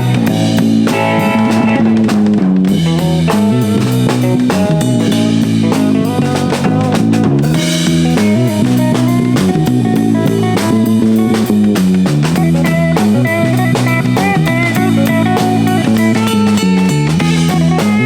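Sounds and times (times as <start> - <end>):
band playing drums and guitar: 0.0 - 18.0.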